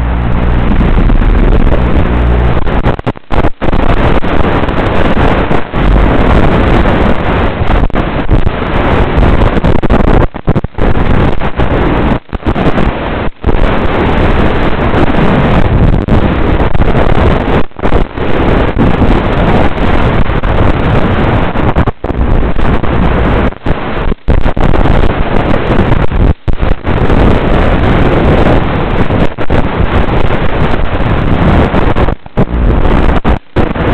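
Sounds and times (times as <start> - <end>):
air rushing over microphone: 0.0 - 33.9.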